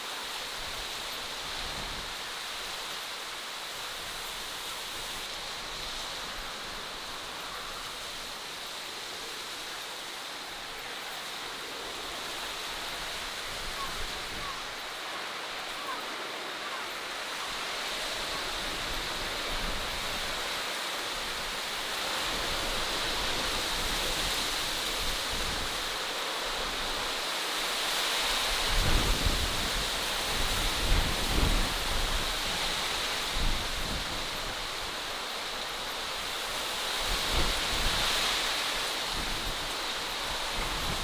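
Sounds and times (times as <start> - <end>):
steady rushing hiss: 0.0 - 41.0.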